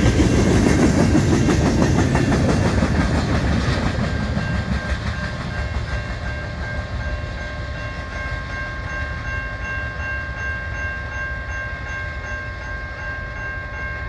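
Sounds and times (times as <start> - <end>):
train cars rumbling on rails: 0.0 - 14.0.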